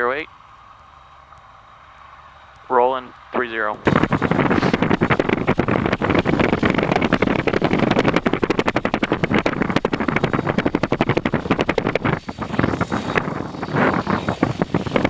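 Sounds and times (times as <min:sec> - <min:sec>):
airplane engine and propeller: 0:00.0 - 0:15.0.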